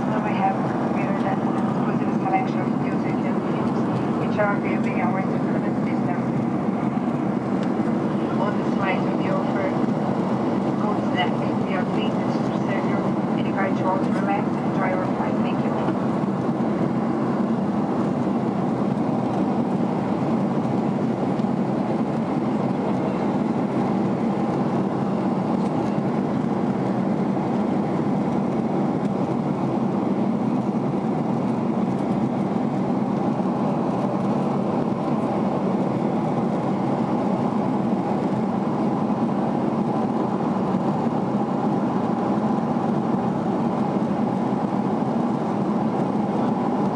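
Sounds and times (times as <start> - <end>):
airliner cabin engine drone: 0.0 - 46.9.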